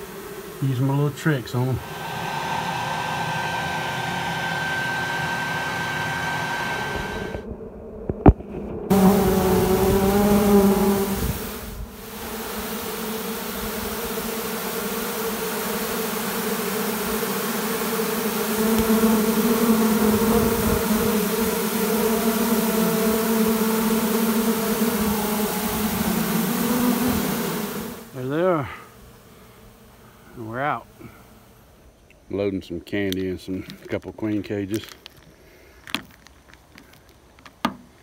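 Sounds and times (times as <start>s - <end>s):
honey bees buzzing: 0.0s - 38.0s.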